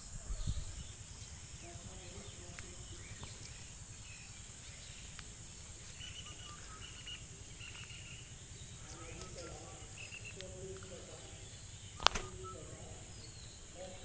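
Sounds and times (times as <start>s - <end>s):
insects droning: 0.0s - 14.0s
short bird chirps: 0.3s - 10.7s, 11.4s - 13.9s.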